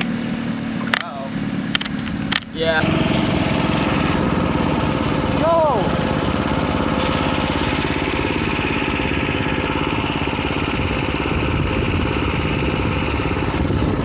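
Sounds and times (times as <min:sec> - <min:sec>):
minibike engine running: 0:00.0 - 0:14.0.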